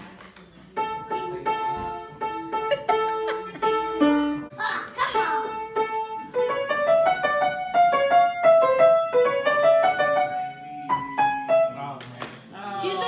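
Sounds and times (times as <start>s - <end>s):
grand piano melody: 0.7s - 12.0s.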